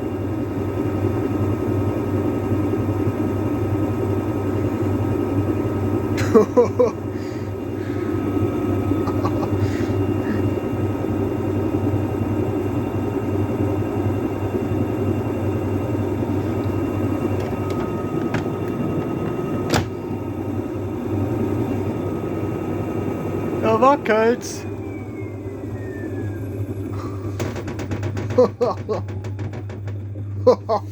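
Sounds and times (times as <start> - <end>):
washing machine rumbling: 0.0 - 30.9.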